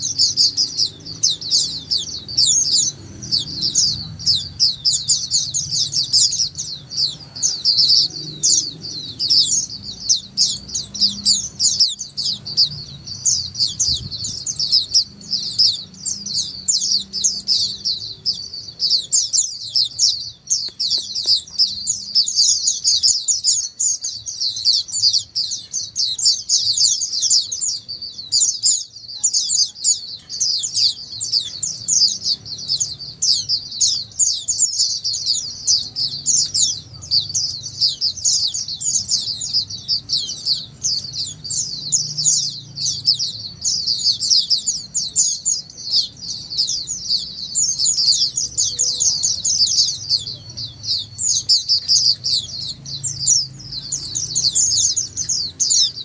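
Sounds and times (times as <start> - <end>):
flock of birds chirping: 0.0 - 56.0.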